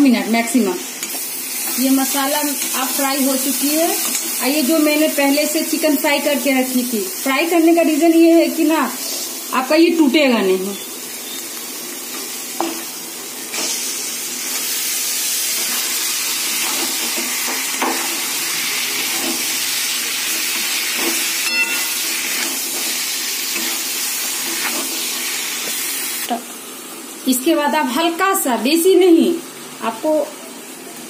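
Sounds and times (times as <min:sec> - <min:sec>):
chicken sizzling in hot oil: 0:00.1 - 0:28.2.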